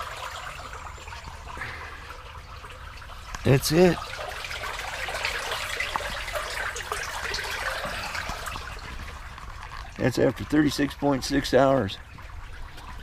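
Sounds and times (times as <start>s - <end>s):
water running and splashing in ditch: 0.0s - 13.0s.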